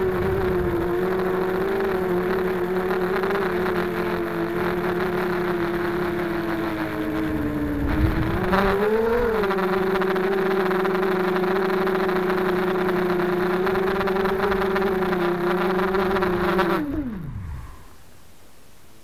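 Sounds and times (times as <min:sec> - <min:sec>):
quadcopter motors whining: 0:00.0 - 0:18.1.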